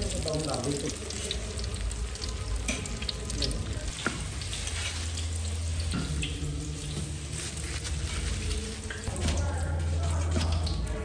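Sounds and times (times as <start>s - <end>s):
tofu sizzling in hot oil: 0.0s - 9.1s.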